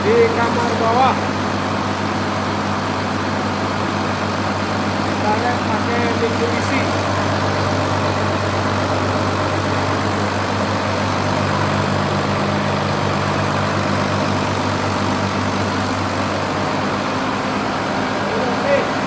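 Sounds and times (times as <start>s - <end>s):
engine and compressor humming: 0.0s - 19.0s.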